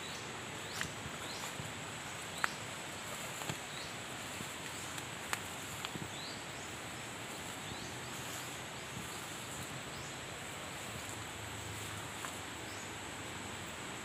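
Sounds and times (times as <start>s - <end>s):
even hiss: 0.0s - 14.0s
high insect drone: 0.0s - 14.0s.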